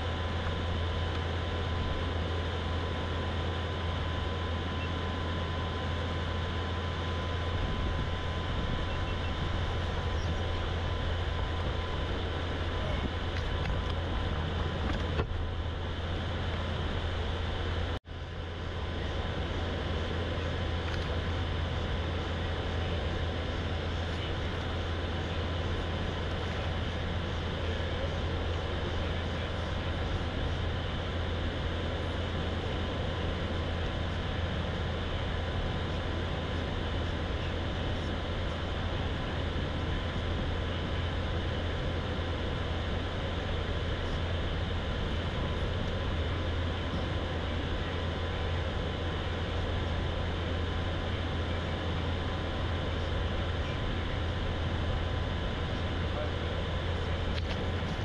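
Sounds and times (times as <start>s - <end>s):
motor humming and whining: 0.0s - 58.0s.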